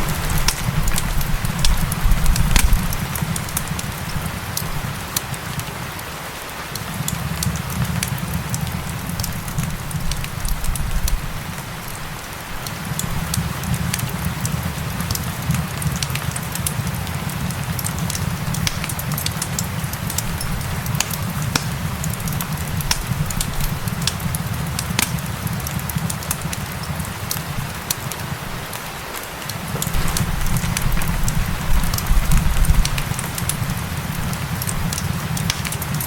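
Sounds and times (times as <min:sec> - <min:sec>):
sharp pops and clicks of fire: 0:00.0 - 0:06.1, 0:06.7 - 0:36.0
fireplace fire crackling: 0:00.0 - 0:36.0
rain pattering: 0:00.0 - 0:36.0.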